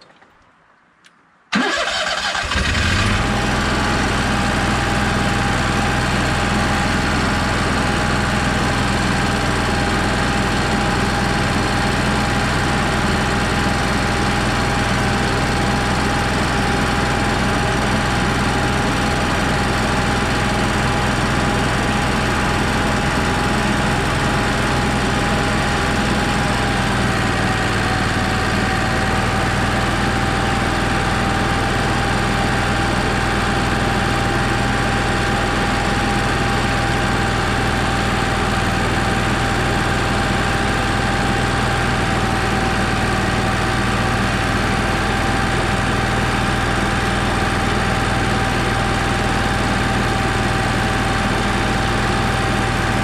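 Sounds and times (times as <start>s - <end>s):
generator running with even hum: 1.5s - 53.0s.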